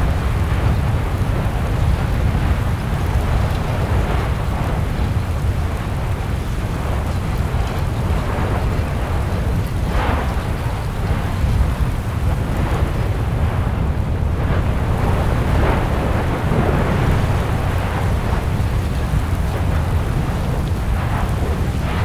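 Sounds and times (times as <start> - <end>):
hissing surges of lava: 0.0 - 22.0
volcano deep rumble: 0.0 - 22.0.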